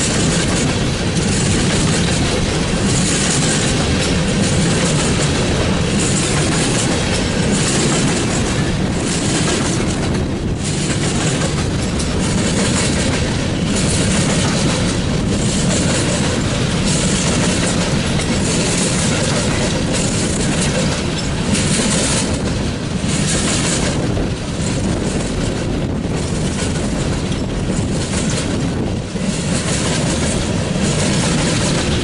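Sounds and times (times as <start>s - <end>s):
freight train wheels rolling: 0.0s - 32.0s.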